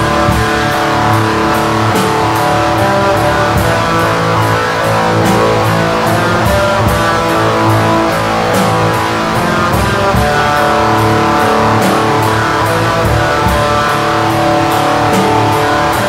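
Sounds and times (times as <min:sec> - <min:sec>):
electric guitars and bass chords: 0:00.0 - 0:16.0
steady drum beat: 0:00.0 - 0:16.0.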